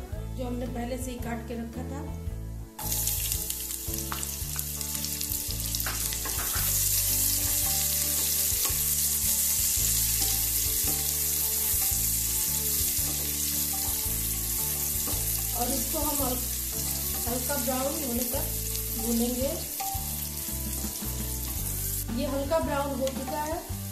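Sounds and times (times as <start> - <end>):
onions sizzling in hot fat: 2.8 - 23.9.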